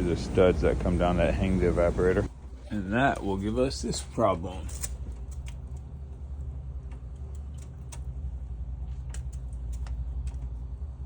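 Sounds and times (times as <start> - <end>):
refrigeration equipment humming: 0.0 - 11.0.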